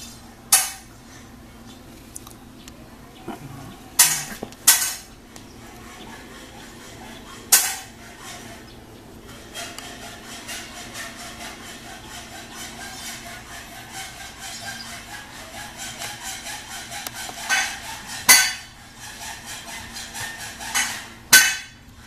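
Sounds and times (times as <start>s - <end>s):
kitten scraping and rubbing device: 3.5s - 21.2s.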